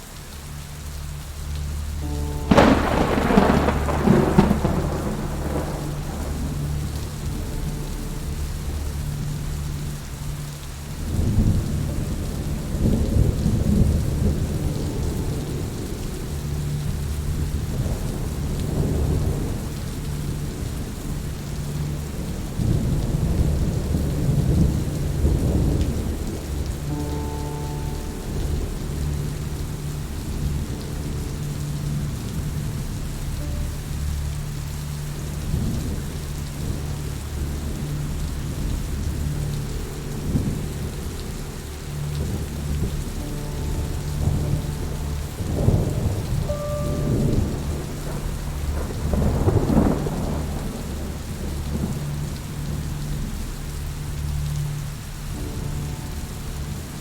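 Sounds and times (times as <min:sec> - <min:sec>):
steady rain: 0:00.0 - 0:57.0
low rumbling thunder: 0:02.0 - 0:57.0.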